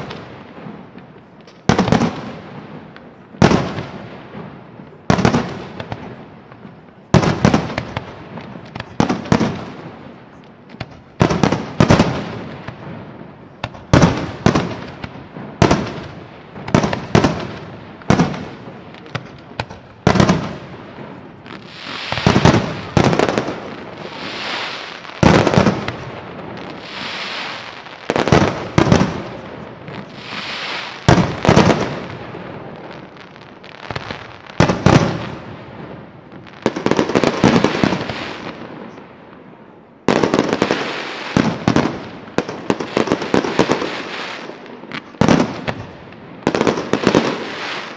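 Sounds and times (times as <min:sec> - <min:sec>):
fireworks bangs: 0:00.0 - 0:47.9
hissing fireworks bursts: 0:00.0 - 0:47.9.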